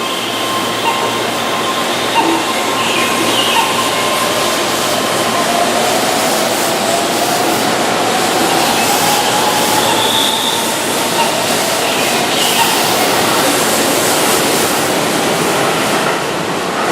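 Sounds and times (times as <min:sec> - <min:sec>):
electric train running: 0:00.0 - 0:16.9.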